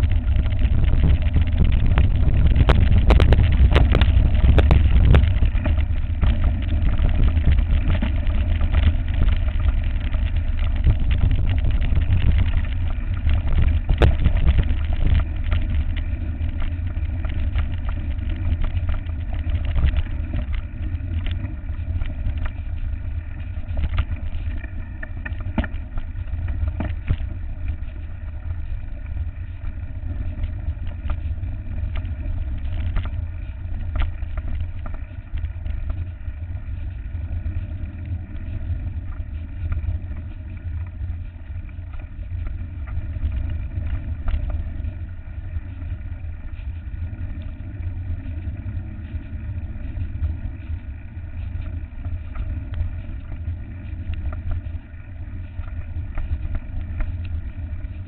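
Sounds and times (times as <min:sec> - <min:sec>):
mountain bike rattling on trail: 0:00.0 - 0:58.0
wind buffeting microphone: 0:00.0 - 0:58.0.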